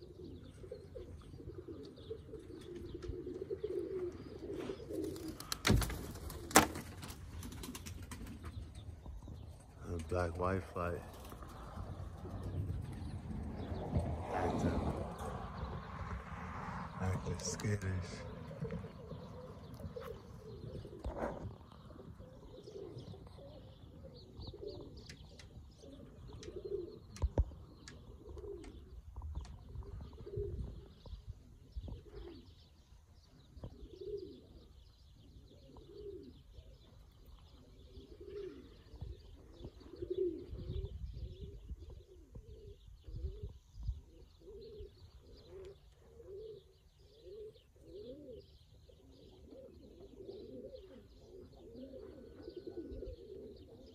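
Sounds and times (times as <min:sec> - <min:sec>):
pigeons cooing: 0:00.0 - 0:53.9
small birds chirping: 0:00.0 - 0:53.9.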